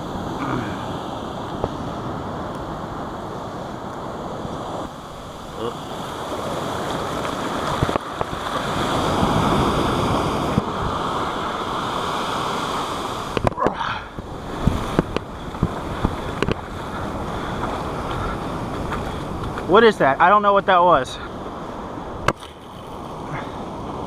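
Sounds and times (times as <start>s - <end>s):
ocean surf breaking: 0.0s - 24.0s.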